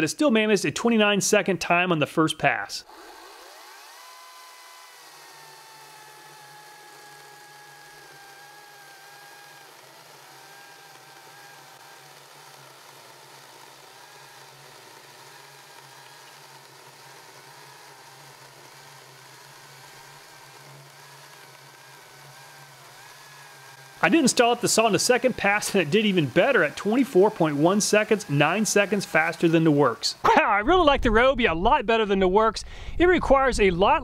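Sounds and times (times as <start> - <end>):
chain cutting through wood: 2.8 - 30.2
chainsaw motor whine: 2.8 - 30.5.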